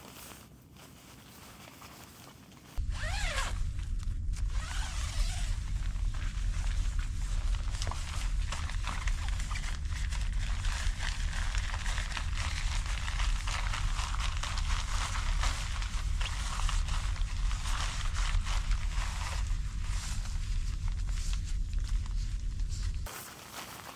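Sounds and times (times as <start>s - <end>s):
tent fabric rustling: 0.0s - 23.9s
steady low rumble: 2.8s - 23.1s.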